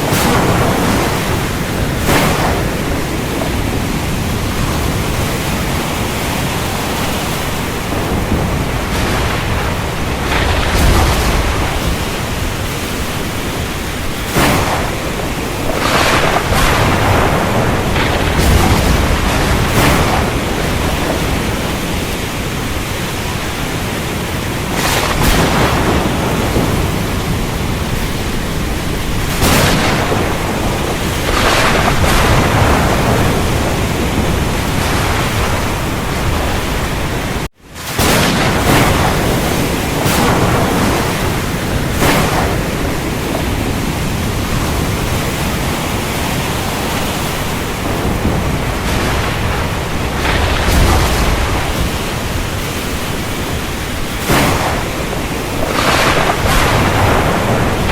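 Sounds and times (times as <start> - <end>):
heavy rain: 0.0 - 57.9
thunder cracks and rumble: 0.0 - 57.9.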